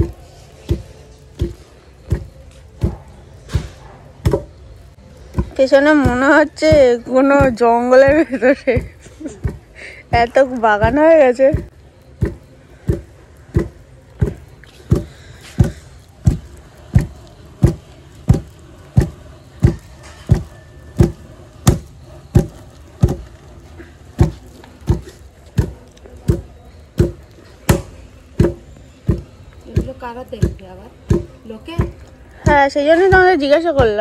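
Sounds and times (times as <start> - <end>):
wooden rice pounder thudding: 0.0 - 4.6, 5.3 - 23.4, 24.2 - 34.0.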